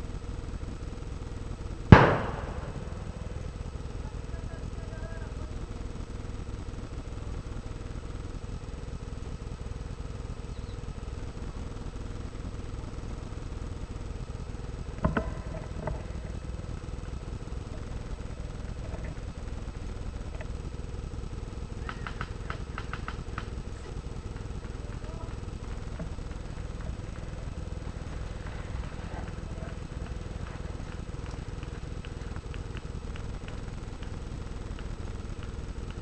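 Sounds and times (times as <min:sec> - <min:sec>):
low rumbling noise: 0:00.0 - 0:36.0.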